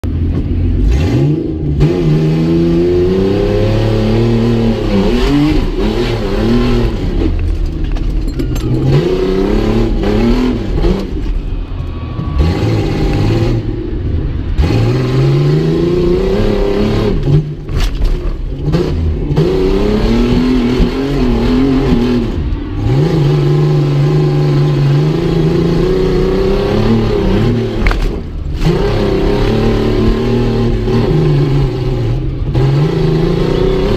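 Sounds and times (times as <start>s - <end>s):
pickup engine revving hard: 0.8s - 7.4s, 8.7s - 11.2s, 14.6s - 17.6s, 18.5s - 33.9s.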